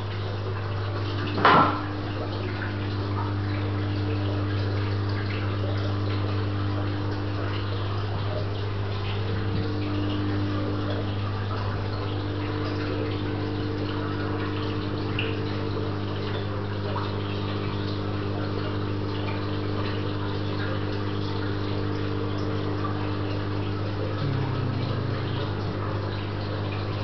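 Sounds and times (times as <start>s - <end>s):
aquarium pumps humming: 0.0s - 27.0s
circulating water wash: 0.0s - 27.0s.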